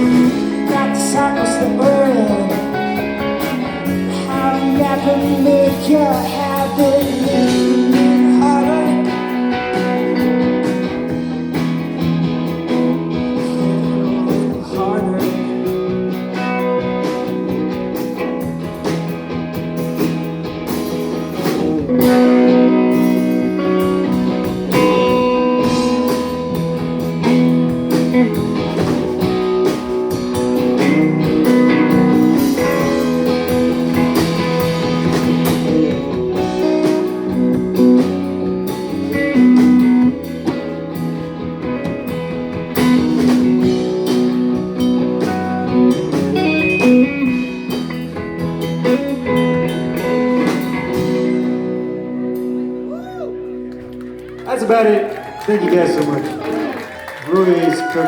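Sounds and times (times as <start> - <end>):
live band with lead guitar: 0.0 - 58.0.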